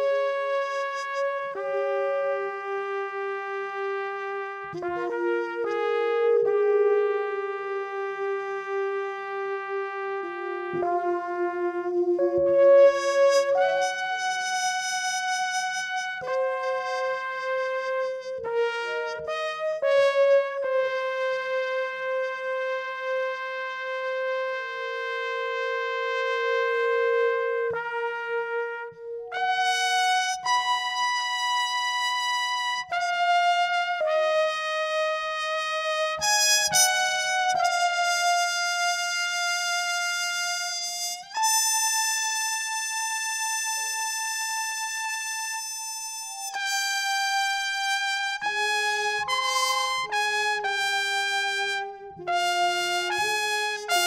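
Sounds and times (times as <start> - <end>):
lower musical line: 0.0 - 54.0
slow brass melody: 0.0 - 54.0.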